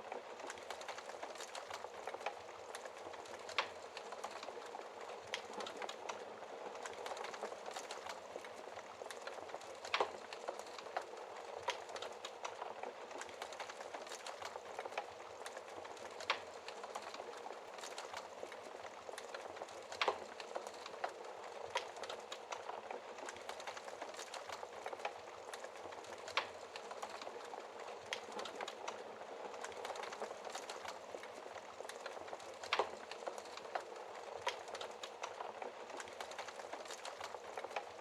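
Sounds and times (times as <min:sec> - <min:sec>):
fireplace fire crackling: 0:00.0 - 0:38.0.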